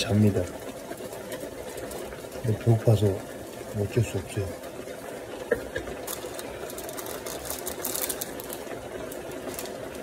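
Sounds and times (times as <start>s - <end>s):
pot boiling hard: 0.0s - 10.0s.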